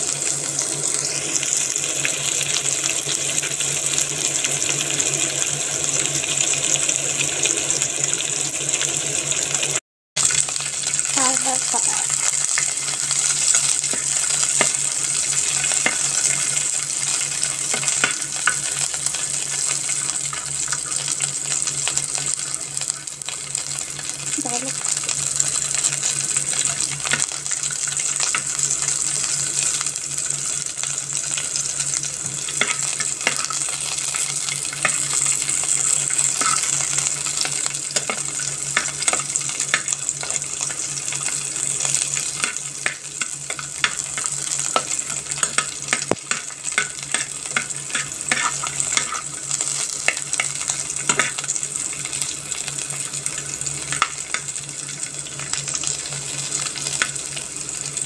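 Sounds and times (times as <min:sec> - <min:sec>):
peppers sizzling in hot oil: 0:00.0 - 0:58.0.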